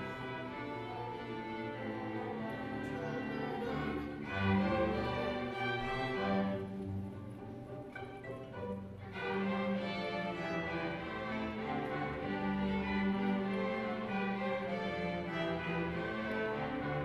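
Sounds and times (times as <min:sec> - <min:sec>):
low cello and bass notes: 0:00.0 - 0:17.0
violins playing: 0:00.0 - 0:17.0.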